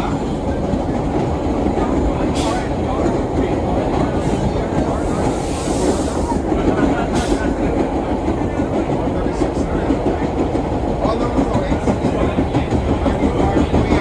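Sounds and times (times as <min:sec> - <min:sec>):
steel wheels rumbling on rail: 0:00.0 - 0:14.0
subway car rattling: 0:00.0 - 0:14.0.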